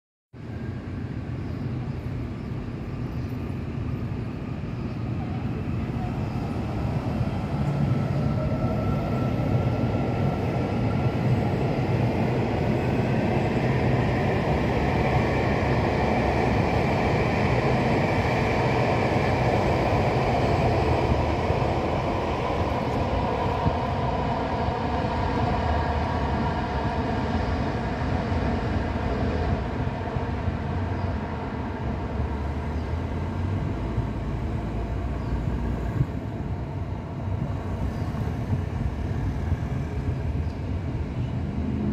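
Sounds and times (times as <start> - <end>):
train wheels rumbling on rails: 0.4 - 41.9.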